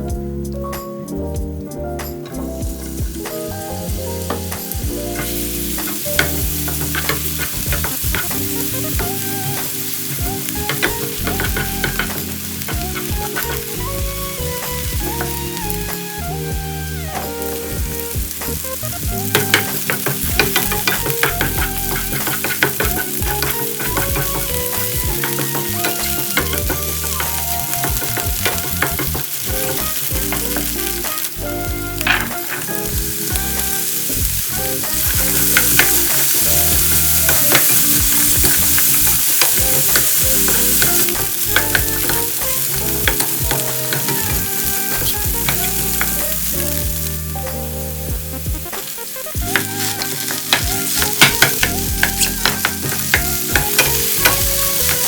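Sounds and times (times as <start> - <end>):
food sizzling in oil: 2.2 - 55.0
spatula scraping a pan: 3.6 - 16.2, 18.4 - 47.6, 48.8 - 55.0.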